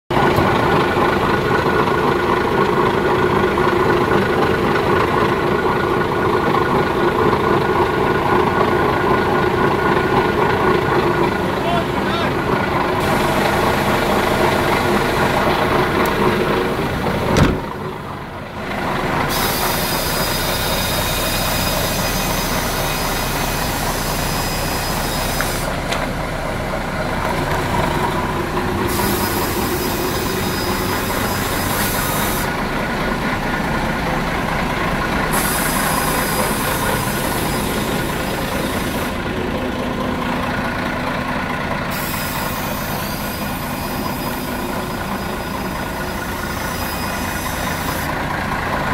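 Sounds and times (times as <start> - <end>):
diesel truck engine idling: 0.1 - 48.9.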